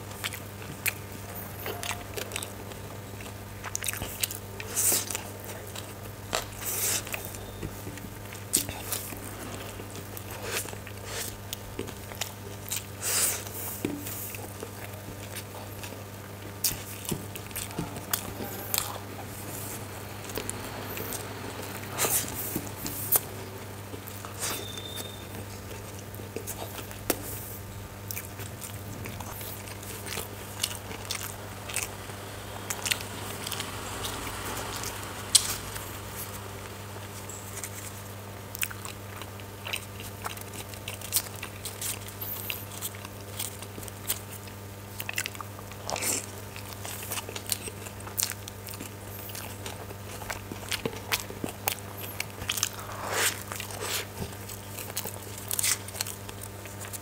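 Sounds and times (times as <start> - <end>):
person chewing food: 0.0 - 57.0
steady low hum: 0.0 - 57.0.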